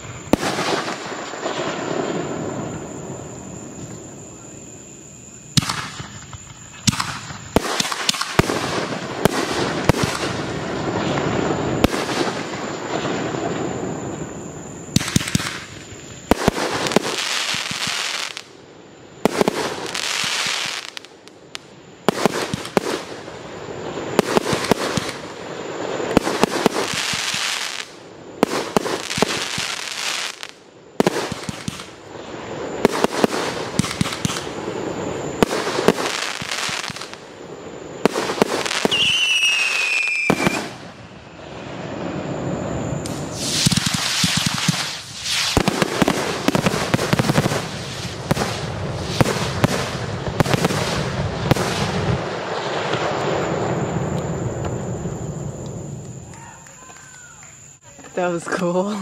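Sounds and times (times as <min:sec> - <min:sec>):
fireworks bursting: 0:00.0 - 0:59.0
fireworks crackling: 0:00.0 - 0:59.0.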